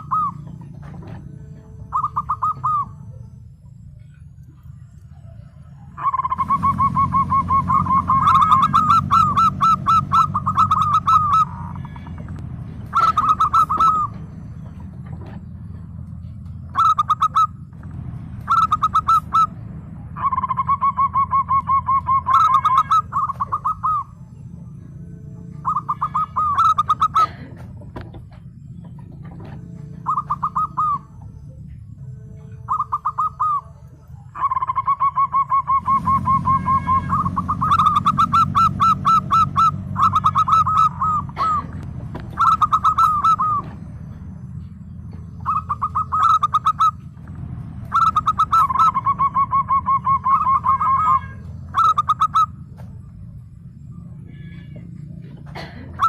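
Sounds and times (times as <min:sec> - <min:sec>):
dove cooing: 0:00.0 - 0:24.5, 0:25.3 - 0:53.1, 0:53.9 - 0:56.0
low hum: 0:00.0 - 0:56.0.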